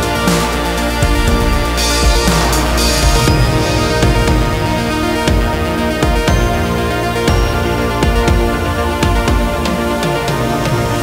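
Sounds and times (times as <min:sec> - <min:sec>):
music with drums and bass: 0:00.0 - 0:11.0.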